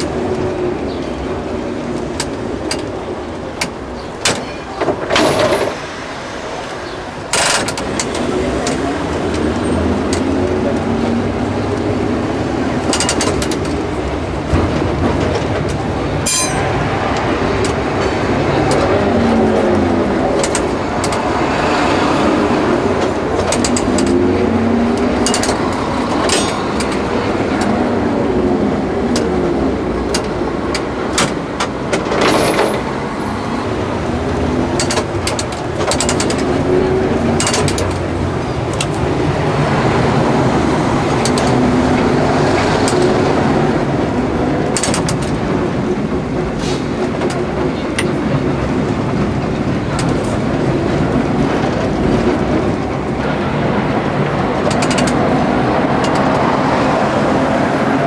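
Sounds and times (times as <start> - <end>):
wheels clicking over rail joints: 0.0 - 5.9, 6.5 - 58.0
tram motor hum and whine: 0.0 - 58.0
tram running noise: 0.0 - 58.0.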